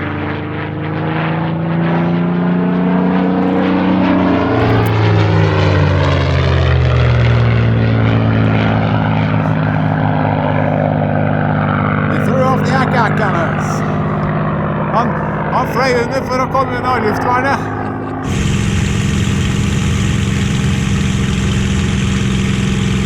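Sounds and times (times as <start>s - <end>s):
propeller aircraft engine passing: 0.0s - 23.0s.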